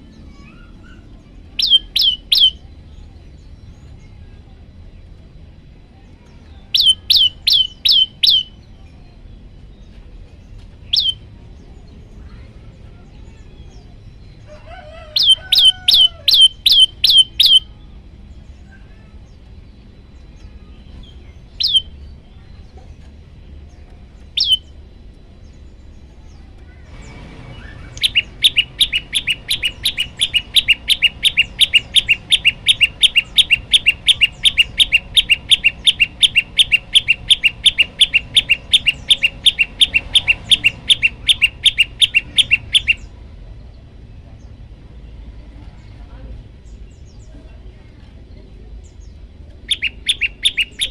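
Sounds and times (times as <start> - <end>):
bird singing high chipping notes: 0.0 - 4.4, 5.9 - 43.2, 48.8 - 50.9.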